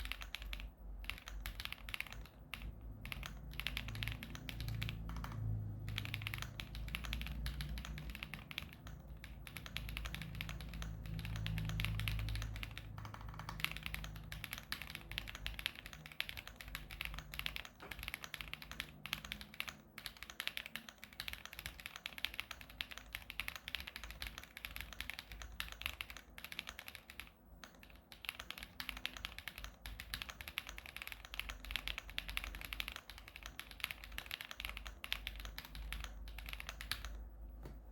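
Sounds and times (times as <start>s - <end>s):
fast typing on mechanical keyboard: 0.0s - 37.2s.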